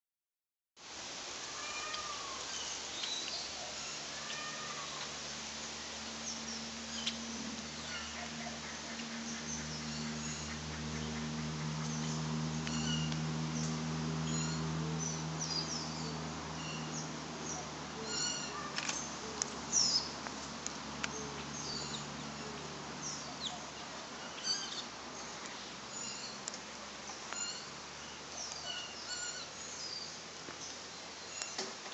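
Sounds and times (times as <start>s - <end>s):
small birds chirping: 1.8s - 31.8s
low steady hum: 3.3s - 31.6s.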